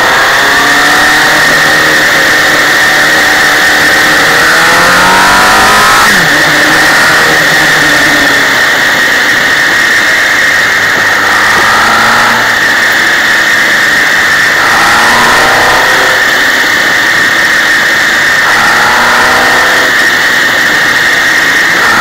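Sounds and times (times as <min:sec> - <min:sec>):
motorcycle engine accelerating: 0:00.0 - 0:22.0
wind and road noise: 0:00.0 - 0:22.0.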